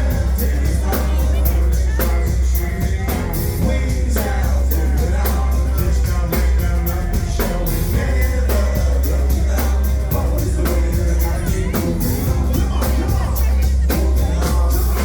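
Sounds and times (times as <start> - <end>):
drum-kit beat: 0.0 - 15.0
heavy bass line: 0.0 - 15.0
person singing: 0.0 - 15.0.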